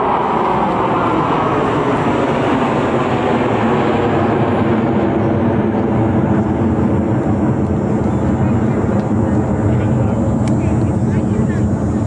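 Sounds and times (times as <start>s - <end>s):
jet roar: 0.0s - 12.0s.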